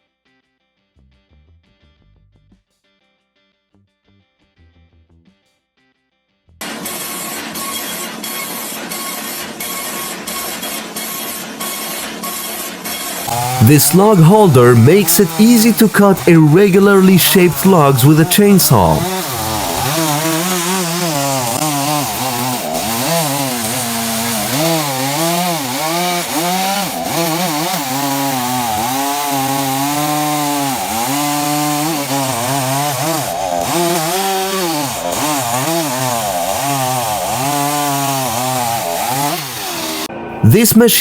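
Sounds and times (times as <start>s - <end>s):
chainsaw cutting through log: 6.6s - 40.1s.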